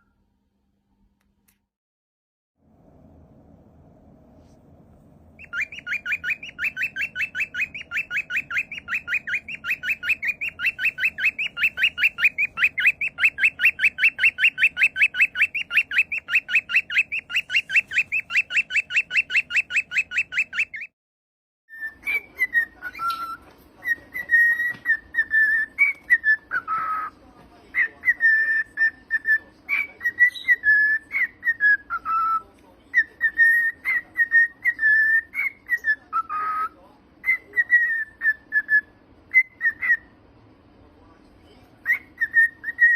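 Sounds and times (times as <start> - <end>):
cockatiel chirping: 5.4 - 20.9, 21.7 - 40.1, 41.8 - 42.9
cockatiel whistling: 5.4 - 20.9, 21.7 - 40.1, 41.8 - 42.9.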